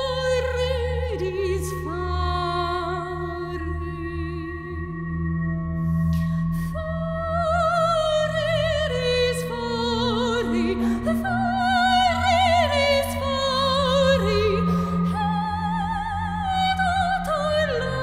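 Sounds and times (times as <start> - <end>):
woman singing operatically: 0.0 - 5.1, 6.7 - 18.0.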